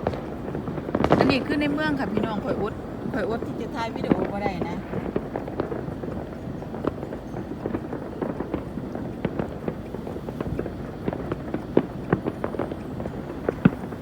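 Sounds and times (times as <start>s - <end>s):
fireworks and firecrackers popping: 0.0s - 14.0s.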